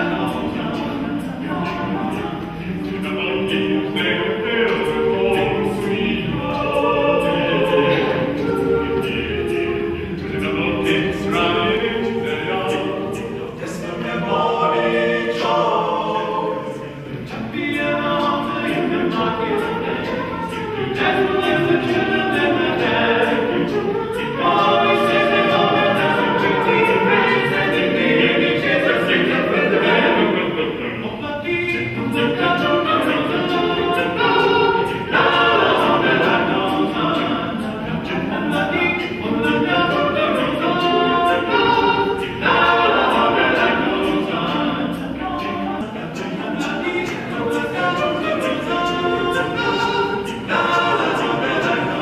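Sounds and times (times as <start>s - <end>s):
male voices singing in harmony: 0.0s - 52.0s
mouth percussion ticks: 0.0s - 52.0s.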